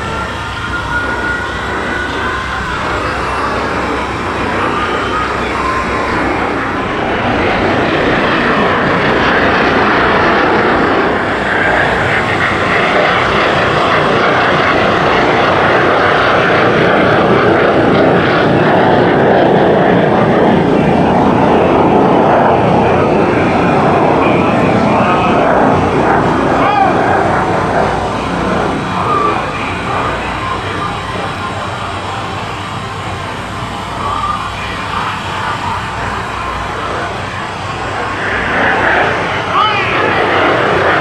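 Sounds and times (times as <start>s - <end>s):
jet engines roaring in flight: 0.0s - 41.0s.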